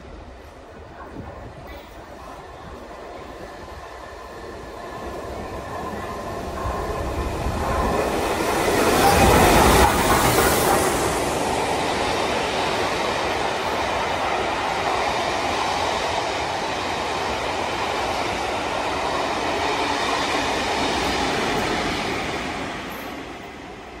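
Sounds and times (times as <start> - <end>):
train coaches rushing past: 0.0 - 24.0.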